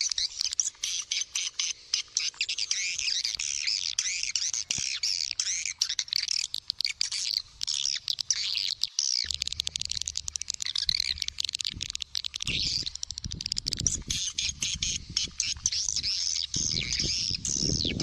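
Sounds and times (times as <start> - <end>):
birds chirping rapidly: 0.0 - 18.0.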